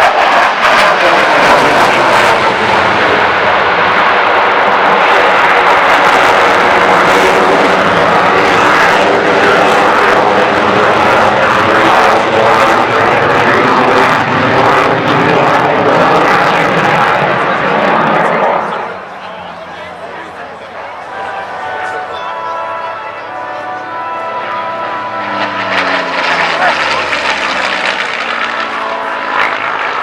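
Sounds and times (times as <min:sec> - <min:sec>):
aircraft engine overhead: 0:00.0 - 0:30.0.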